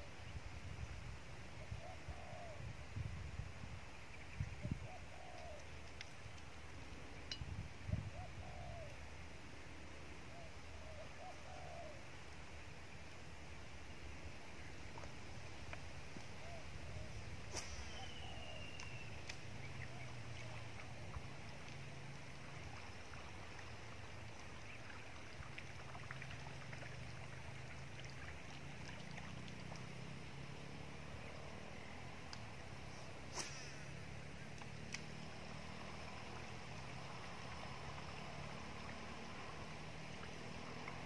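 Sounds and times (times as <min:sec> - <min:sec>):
low rumble background noise: 0:00.0 - 0:41.0.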